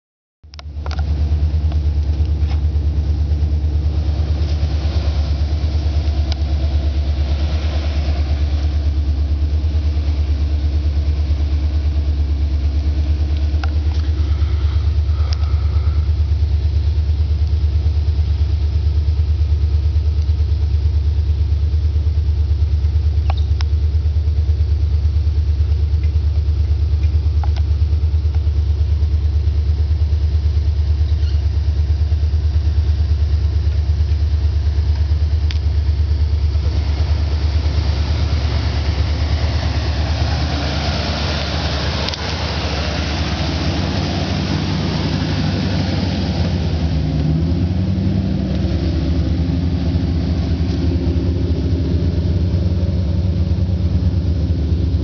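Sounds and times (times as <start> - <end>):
vehicle engine idling: 0.4 - 55.0.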